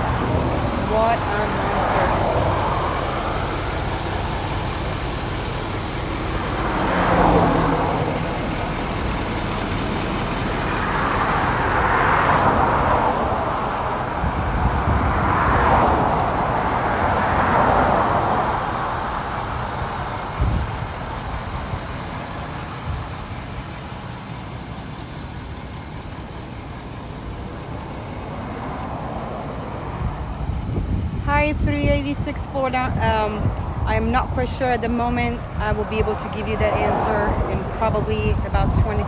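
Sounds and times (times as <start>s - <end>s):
motor vehicle noise: 0.0s - 39.0s.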